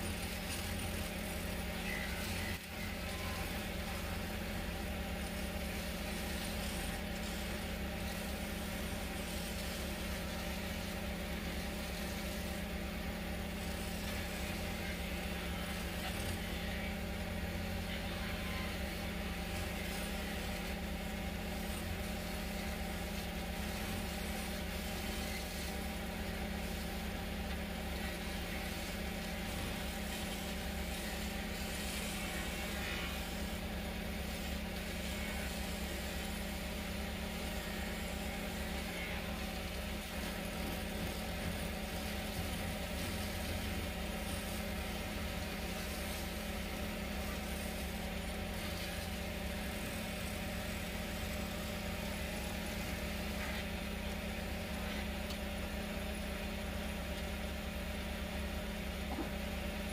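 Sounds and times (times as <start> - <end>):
lathe motor humming: 0.0 - 59.9.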